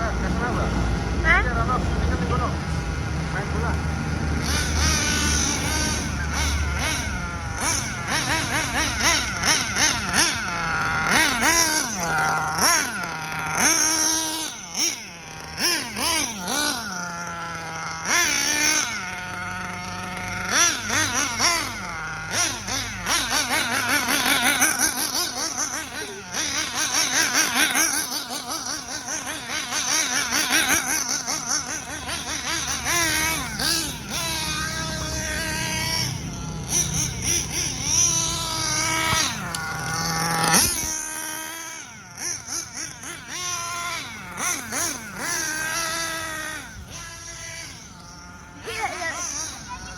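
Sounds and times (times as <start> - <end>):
model buggy engine revving: 0.0 - 49.9.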